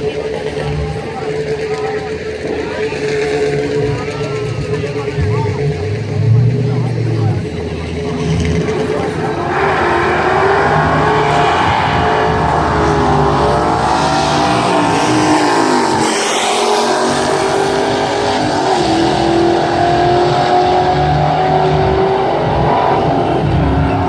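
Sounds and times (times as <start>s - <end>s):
race car engine at full throttle: 0.0s - 24.0s.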